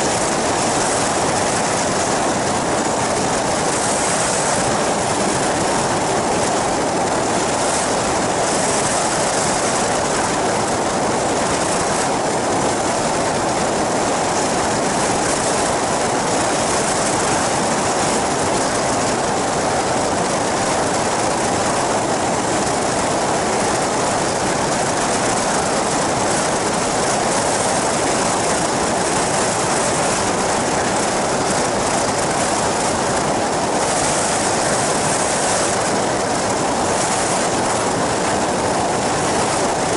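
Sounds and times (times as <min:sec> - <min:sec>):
aircraft engine and propeller: 0:00.0 - 0:39.9
wind on microphone: 0:00.0 - 0:39.9.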